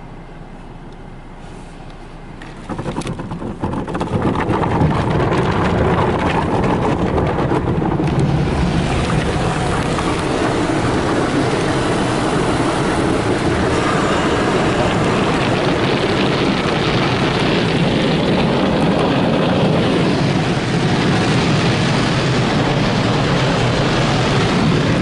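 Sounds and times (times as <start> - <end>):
car wash spray on glass: 1.4 - 25.0.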